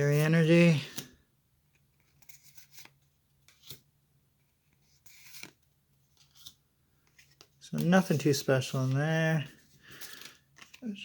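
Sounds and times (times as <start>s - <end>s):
trading cards rustling and sliding: 0.0s - 11.0s.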